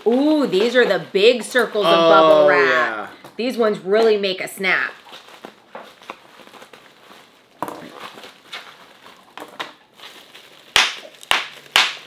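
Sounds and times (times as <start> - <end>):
bubble wrap bubble popping: 0.0 - 12.0
bubble wrap crinkling: 0.0 - 12.0.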